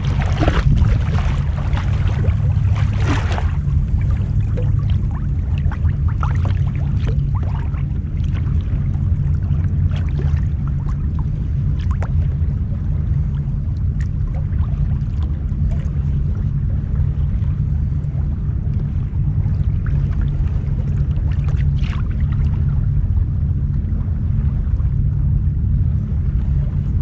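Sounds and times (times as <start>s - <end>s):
steady low rumble: 0.0s - 27.0s
water lapping against plastic hull: 0.0s - 27.0s.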